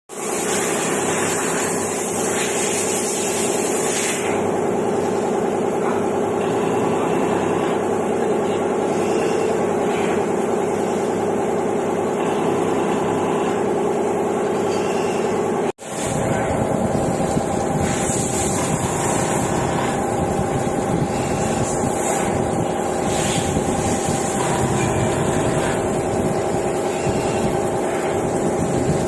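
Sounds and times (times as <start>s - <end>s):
milling machine running: 0.1s - 29.0s.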